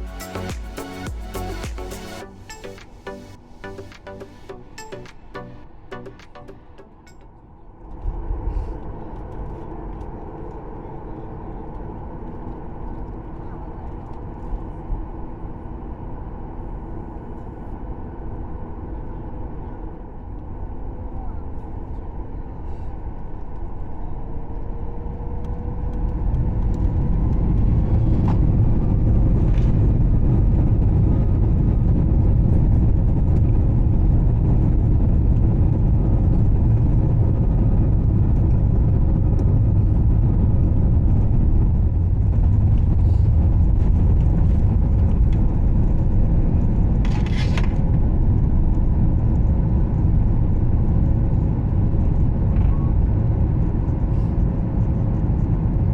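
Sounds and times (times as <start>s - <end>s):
rising engine whine: 0.0s - 47.1s
jet engine cabin rumble: 7.5s - 55.9s.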